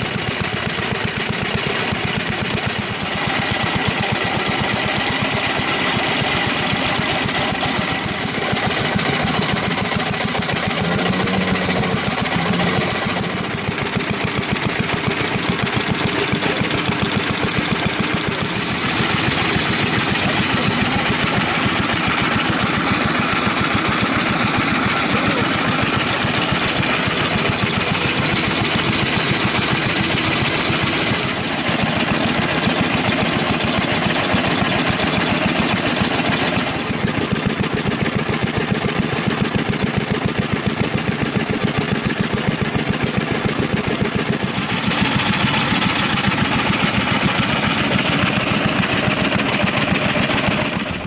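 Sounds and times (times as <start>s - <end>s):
stationary engine running: 0.0s - 51.0s.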